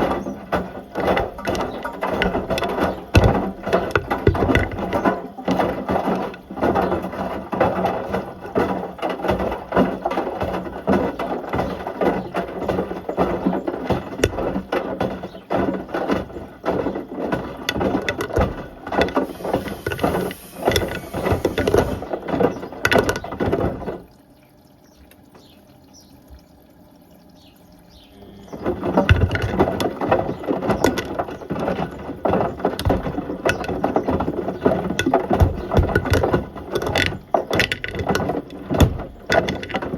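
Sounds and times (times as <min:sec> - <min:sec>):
objects clattering in washing machine drum: 0:00.0 - 0:24.1, 0:28.2 - 0:39.9.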